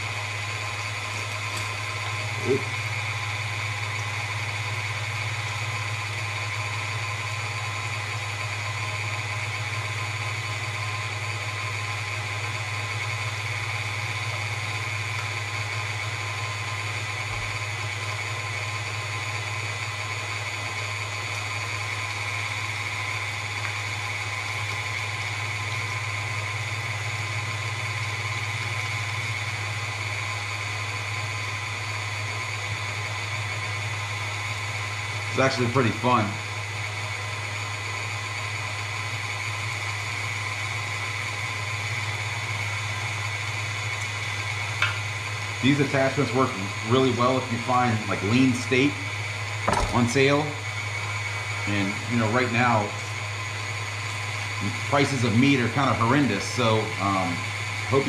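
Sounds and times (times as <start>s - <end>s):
stand mixer motor hum: 0.0s - 58.0s.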